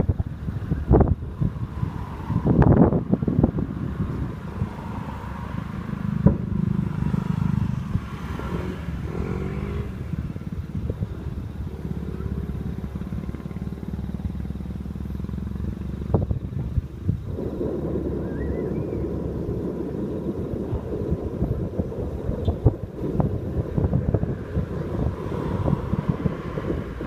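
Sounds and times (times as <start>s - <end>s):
fireworks crackling: 0.0s - 27.0s
fireworks booming: 1.0s - 27.0s.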